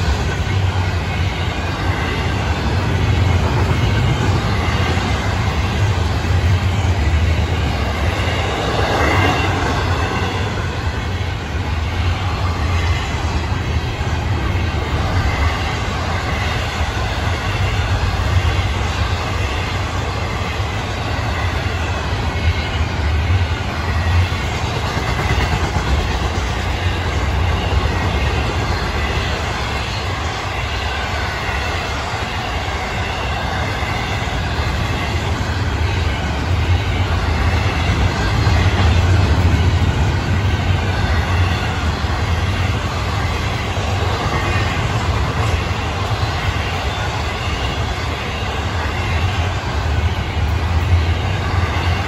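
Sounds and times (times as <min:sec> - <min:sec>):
freight train rumbling past: 0:00.0 - 0:52.0
wheels on rails: 0:00.0 - 0:52.0.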